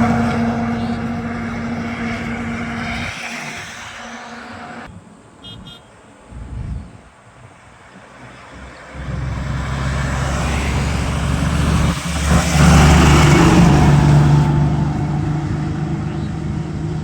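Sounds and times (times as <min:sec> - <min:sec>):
heavy truck engine droning: 0:00.0 - 0:17.0.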